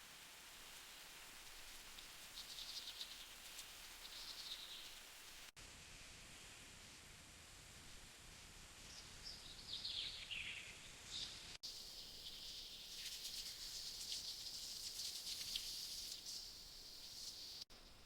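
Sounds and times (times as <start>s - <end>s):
faint forest ambience: 0.0s - 18.0s.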